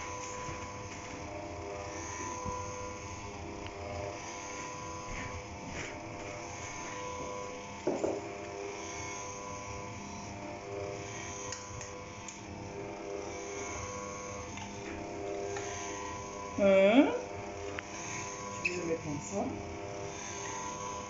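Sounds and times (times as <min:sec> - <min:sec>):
stand mixer motor humming: 0:00.0 - 0:21.0.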